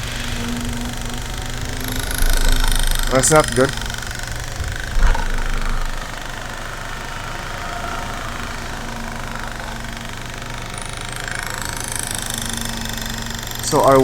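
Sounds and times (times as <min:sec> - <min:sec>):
engine and driveline hum: 0:00.0 - 0:12.4
differential vibrating: 0:00.0 - 0:14.0.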